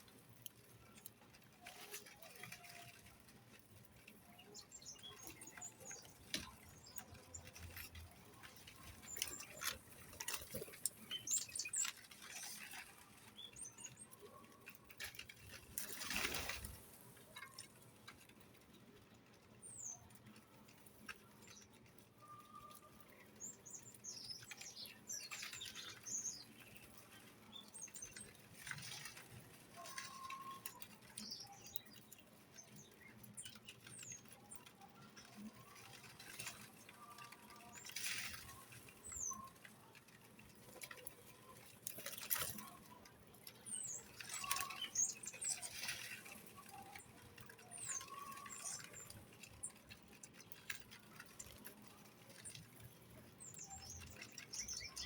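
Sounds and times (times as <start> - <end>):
small birds chirping: 0.0 - 55.0
wings fluttering: 0.2 - 18.7, 22.4 - 55.0.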